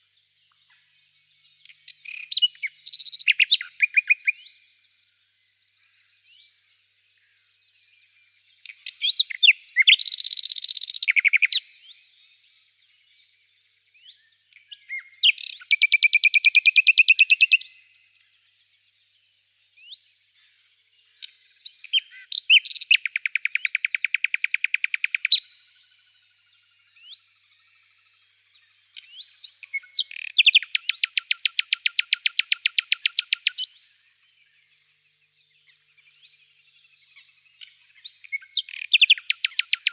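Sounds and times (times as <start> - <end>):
songbird singing repeated notes: 0.0 - 39.9.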